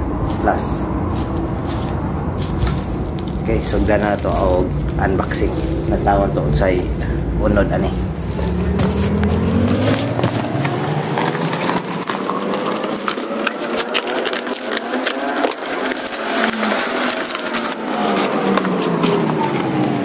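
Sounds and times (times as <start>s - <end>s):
bubble wrap crinkling: 1.3s - 20.0s.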